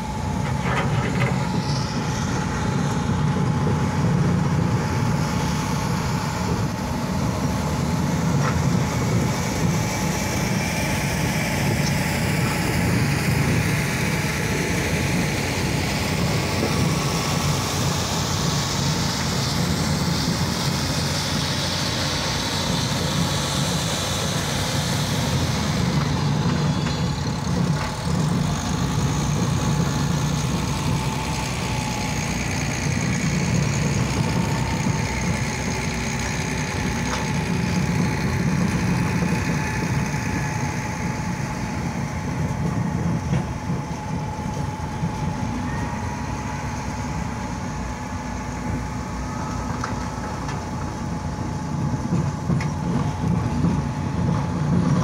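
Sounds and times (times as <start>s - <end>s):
thin steady whine: 0.0s - 55.0s
wood chipper drone: 0.0s - 55.0s.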